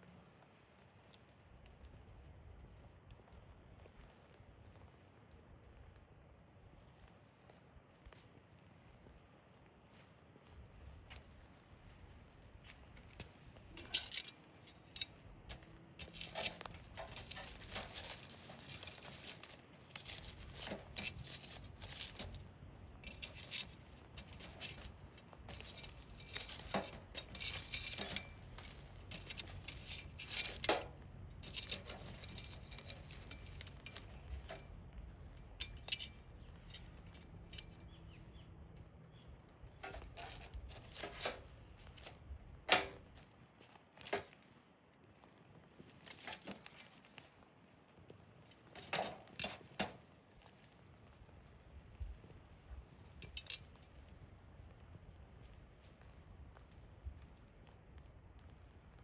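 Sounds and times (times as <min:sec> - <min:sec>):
fire crackling: 0:00.0 - 0:59.0
sharp snaps and pops: 0:00.0 - 0:59.0.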